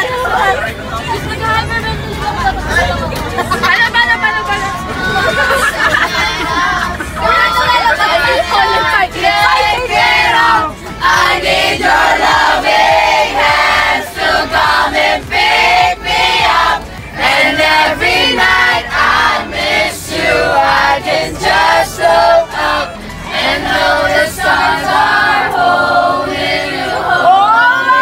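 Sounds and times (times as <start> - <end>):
passengers singing together: 0.0 - 28.0.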